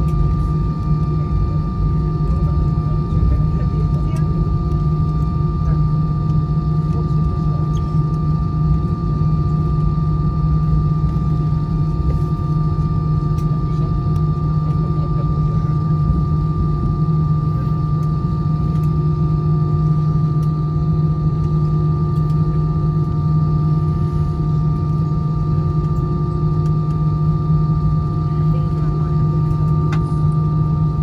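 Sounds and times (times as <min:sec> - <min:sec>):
aircraft cabin drone: 0:00.0 - 0:31.0.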